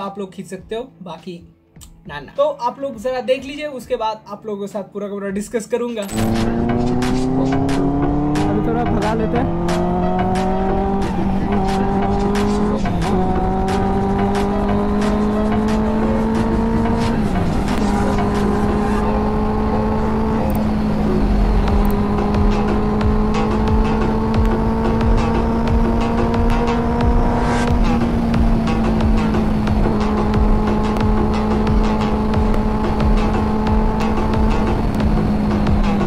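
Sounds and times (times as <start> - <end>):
motorcycle engine accelerating: 6.1 - 36.0.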